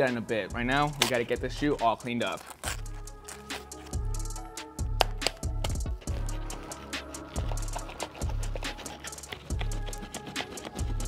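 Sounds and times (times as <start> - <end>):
background music with a beat: 0.0 - 11.0.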